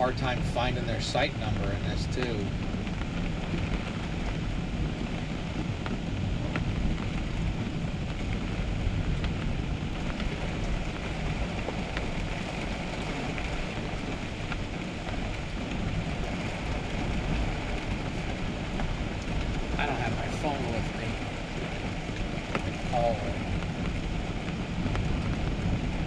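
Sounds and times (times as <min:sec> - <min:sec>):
heavy rain hiss: 0:00.0 - 0:26.0
raindrops tapping: 0:00.0 - 0:26.0
strong wind: 0:00.0 - 0:26.0.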